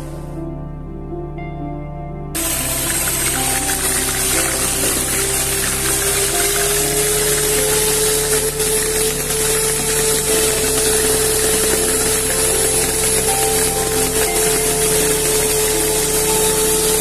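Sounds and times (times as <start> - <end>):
background music: 0.0 - 17.0
small electric motor whining: 2.4 - 17.0.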